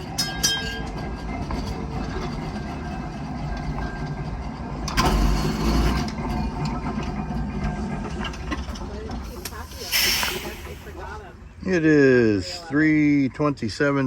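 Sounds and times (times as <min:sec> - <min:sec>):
streetcar rumbling on rails: 0:00.0 - 0:14.0.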